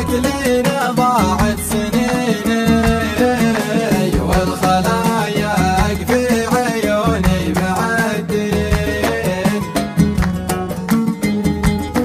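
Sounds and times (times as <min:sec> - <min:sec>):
person singing: 0:00.0 - 0:12.0
steady percussion beat: 0:00.0 - 0:12.0.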